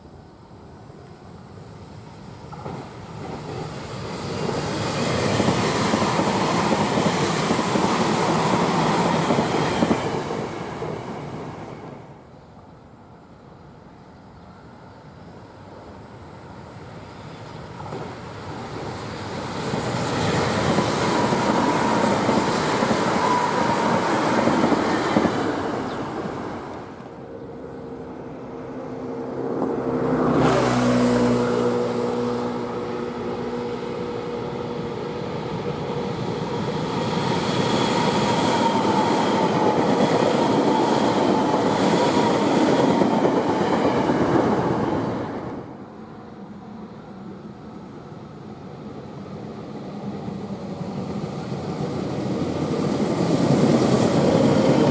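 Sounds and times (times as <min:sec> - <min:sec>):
electric train passing: 0:00.0 - 0:54.9.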